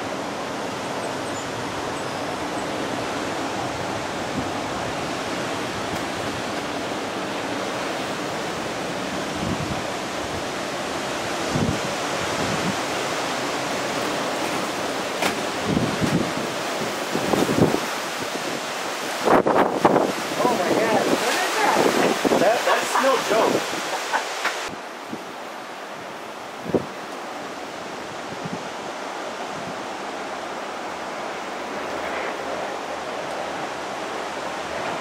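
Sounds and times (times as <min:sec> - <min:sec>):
strong wind through trees: 0:00.0 - 0:35.0
wind buffeting microphone: 0:00.0 - 0:35.0.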